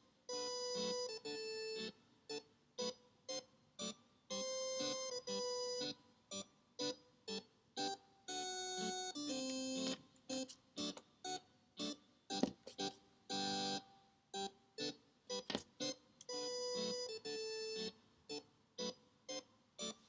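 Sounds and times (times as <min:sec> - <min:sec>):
keyboard melody: 0:00.3 - 0:20.0.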